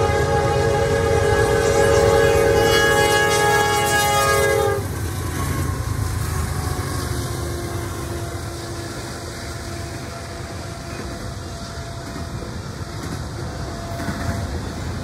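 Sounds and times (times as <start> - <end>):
locomotive air horn: 0.0 - 13.0
locomotives rumbling past: 0.0 - 15.0.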